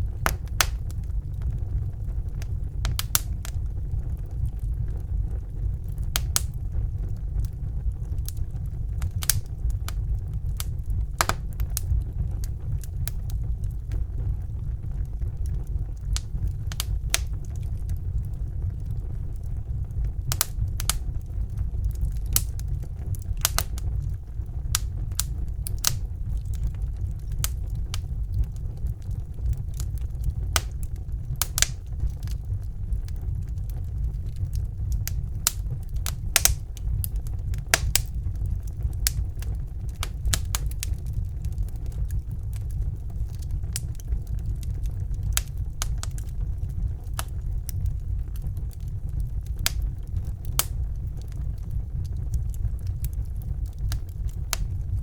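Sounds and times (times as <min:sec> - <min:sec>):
logs crackling and popping: 0:00.0 - 0:55.0
wood fire rumbling: 0:00.0 - 0:55.0.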